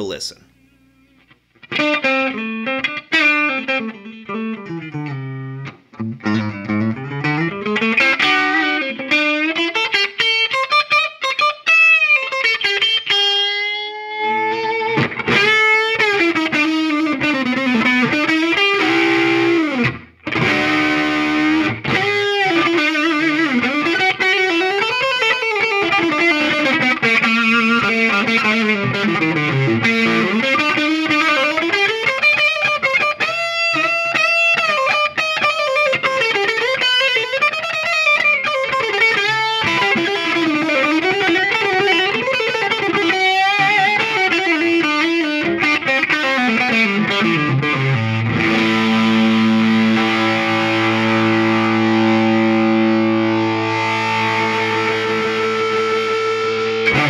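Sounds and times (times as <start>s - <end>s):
electric guitar lead lines: 0.0s - 57.0s.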